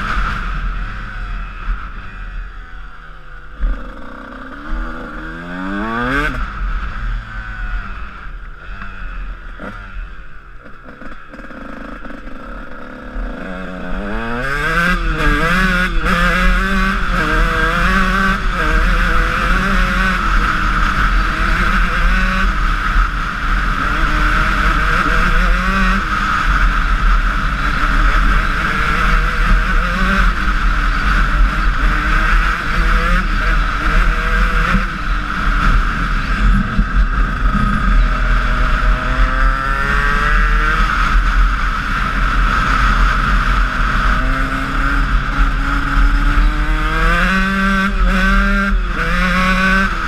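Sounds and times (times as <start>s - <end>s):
motocross engine revving: 3.6s - 50.0s.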